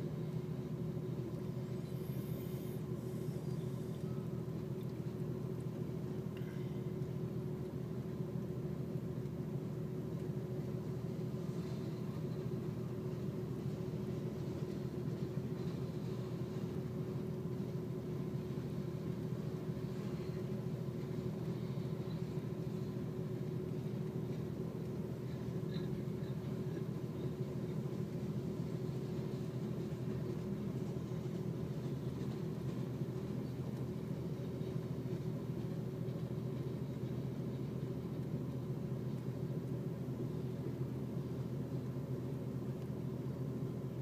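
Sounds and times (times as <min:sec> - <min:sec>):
freight train cars rumbling: 0:00.0 - 0:44.0.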